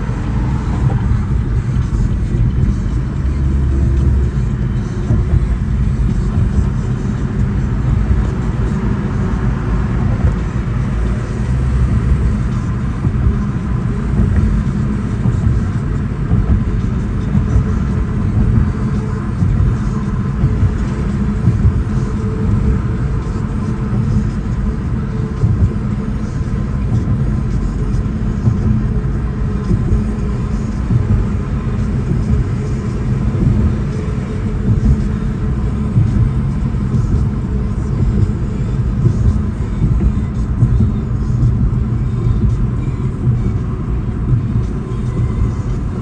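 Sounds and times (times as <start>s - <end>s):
car interior road rumble: 0.0s - 46.0s.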